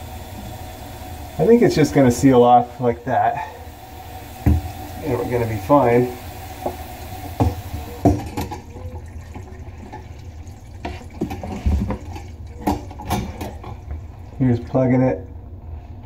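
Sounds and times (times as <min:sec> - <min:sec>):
water running down drain: 0:00.0 - 0:15.3.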